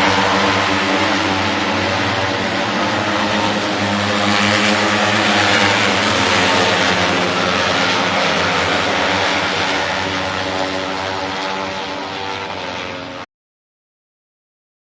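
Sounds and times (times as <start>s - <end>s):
engine drone: 0.0s - 13.3s.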